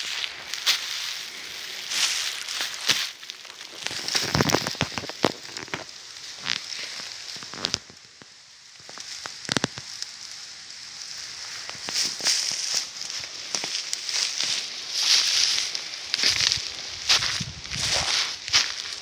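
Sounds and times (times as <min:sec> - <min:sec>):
dry twigs crackling underfoot: 0:00.0 - 0:19.0
steady high hiss: 0:00.0 - 0:19.0.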